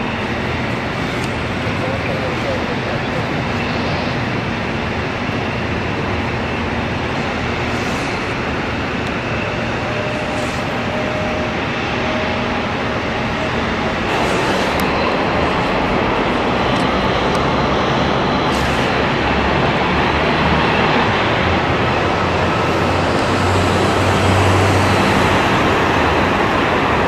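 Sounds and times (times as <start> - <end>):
jet engines taxiing: 0.0 - 27.0.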